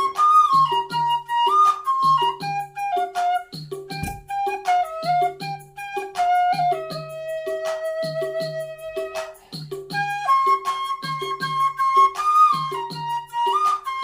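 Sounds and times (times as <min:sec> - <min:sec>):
flute melody: 0:00.0 - 0:14.0.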